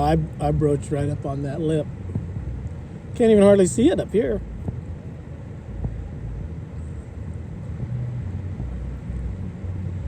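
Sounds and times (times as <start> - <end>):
vehicle driving rumble: 0.0 - 10.0.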